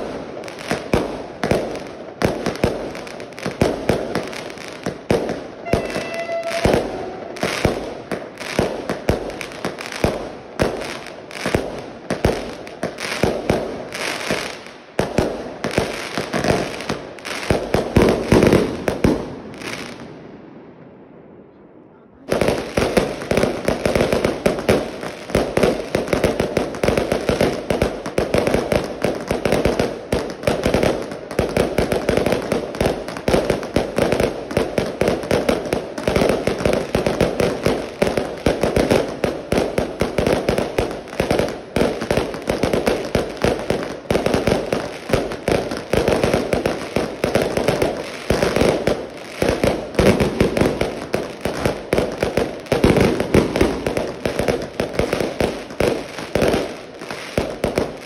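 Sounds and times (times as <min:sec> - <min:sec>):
fireworks banging and crackling: 0:00.0 - 0:21.6, 0:22.2 - 0:58.0.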